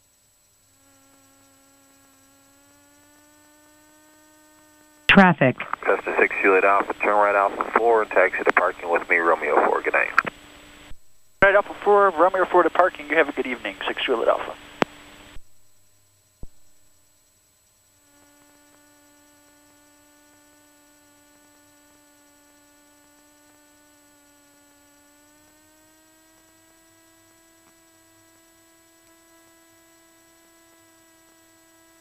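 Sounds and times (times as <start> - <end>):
faint electrical hum: 0.0 - 25.7.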